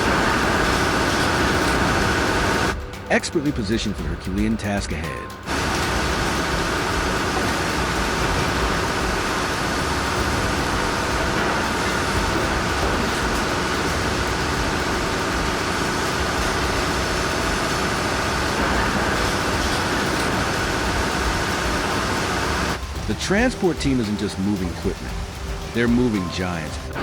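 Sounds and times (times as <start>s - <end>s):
heavy machinery running: 0.0s - 27.0s.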